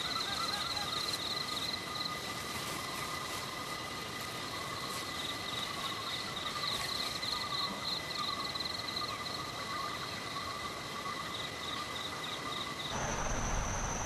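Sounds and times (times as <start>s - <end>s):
insects buzzing: 0.0s - 14.0s
insects trilling: 0.0s - 14.0s.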